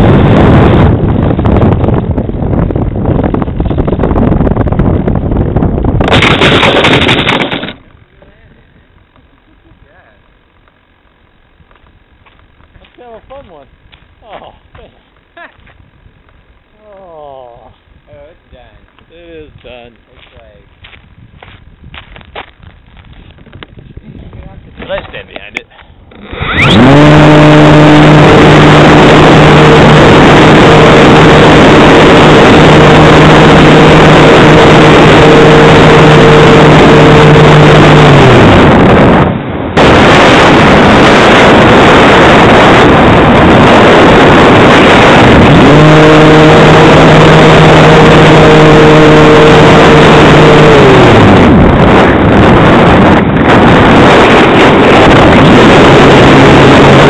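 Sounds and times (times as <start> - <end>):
motor and propeller drone: 0.0 - 57.0
wind rushing over microphone: 0.0 - 57.0.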